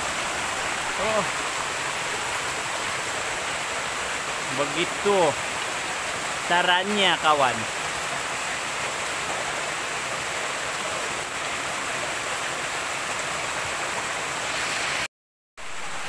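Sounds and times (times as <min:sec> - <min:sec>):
stream cascading over rocks: 0:00.0 - 0:16.0.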